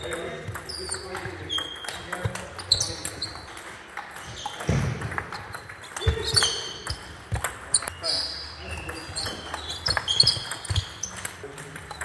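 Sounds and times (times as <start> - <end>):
ping pong ball clicking off paddles: 0.0 - 12.0
sneakers squeaking on floor: 0.0 - 12.0.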